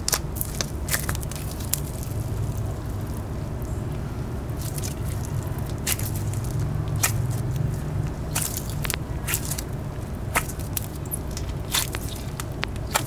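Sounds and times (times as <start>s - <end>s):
hands squishing slime: 0.0s - 3.8s, 4.5s - 13.0s
steady low hum: 0.0s - 13.0s.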